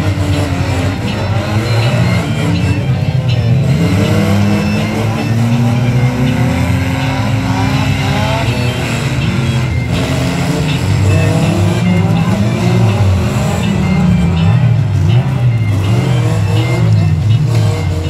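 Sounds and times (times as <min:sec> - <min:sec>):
racing car engines revving: 0:00.0 - 0:18.0.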